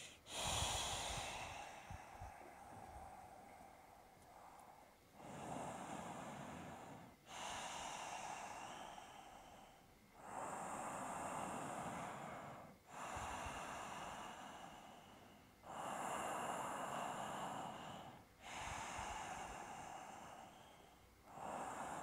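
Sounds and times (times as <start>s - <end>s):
person breathing slowly: 0.0s - 22.0s.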